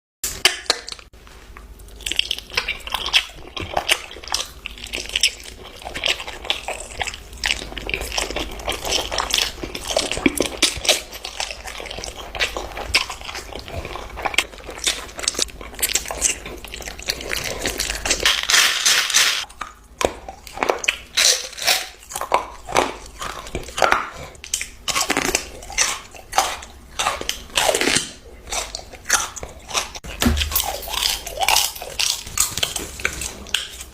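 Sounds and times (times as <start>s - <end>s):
crunchy food being chewed: 0.3s - 33.9s.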